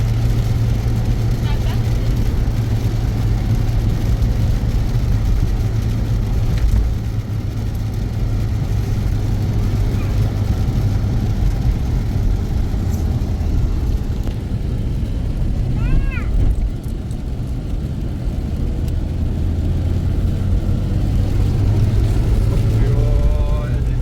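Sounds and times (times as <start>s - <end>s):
car engine drone: 0.0s - 24.0s
road and wind rumble: 0.0s - 24.0s.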